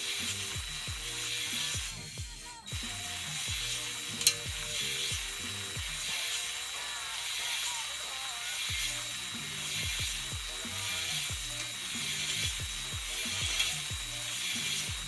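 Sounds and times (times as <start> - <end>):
background music with deep bass: 0.0 - 15.0.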